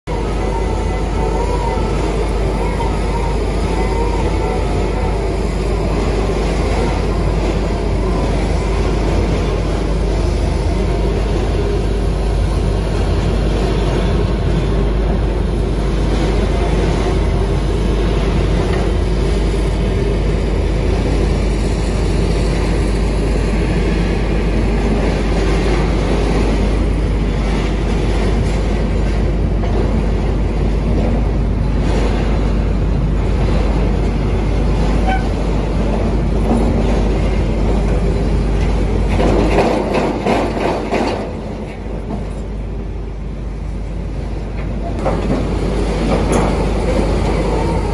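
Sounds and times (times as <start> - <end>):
drilling rig diesel engine: 0.1 - 47.9
hydraulics working under load: 0.1 - 47.9.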